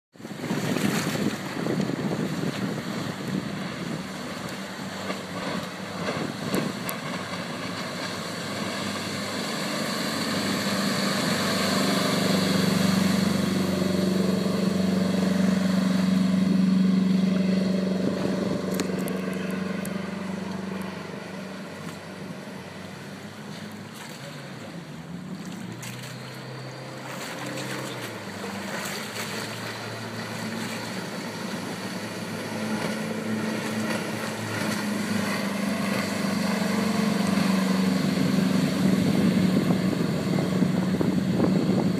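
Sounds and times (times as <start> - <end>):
jet boat engine: 0.1 - 41.9
water jet rush and spray: 0.2 - 41.9.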